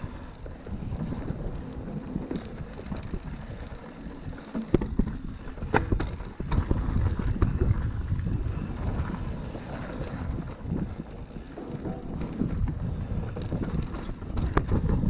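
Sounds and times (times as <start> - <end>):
bike knocking and rattling: 0.0 - 8.2, 8.8 - 15.0
bike tyres rumbling over dirt: 0.0 - 15.0
wind buffeting microphone: 0.0 - 15.0.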